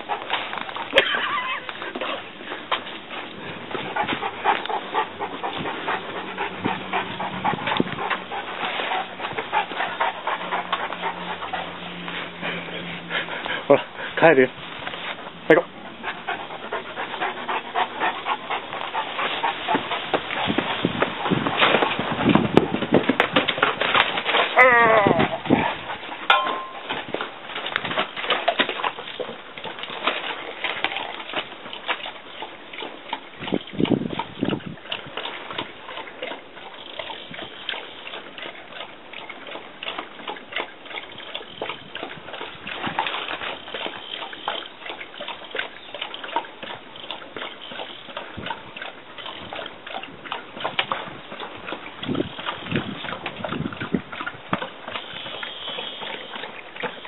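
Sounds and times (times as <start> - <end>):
horse slurping water: 0.0 - 57.0
water sloshing in bucket: 0.0 - 57.0.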